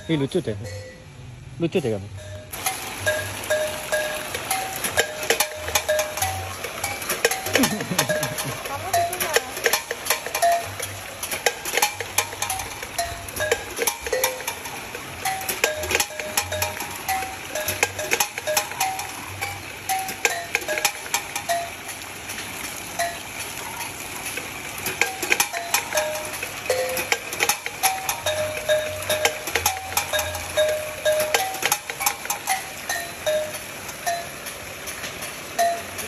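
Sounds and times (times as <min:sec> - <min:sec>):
metal chimes ringing: 0:00.0 - 0:22.2, 0:22.9 - 0:36.0
water spraying and splashing: 0:02.5 - 0:36.0.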